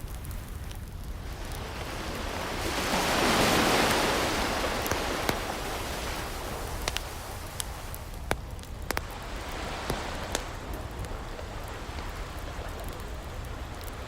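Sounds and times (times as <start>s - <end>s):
fire popping: 0.0s - 14.0s
ocean waves: 0.0s - 14.0s
wood fire crackling: 0.0s - 14.0s.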